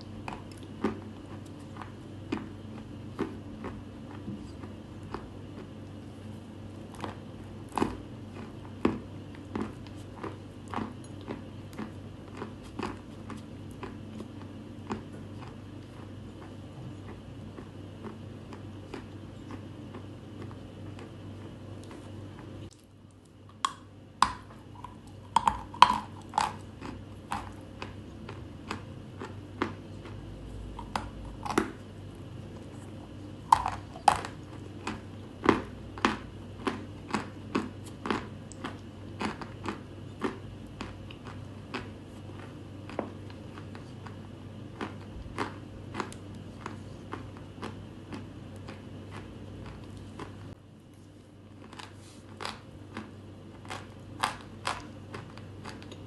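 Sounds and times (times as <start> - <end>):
chalk crunching as it is chewed: 0.0 - 56.0.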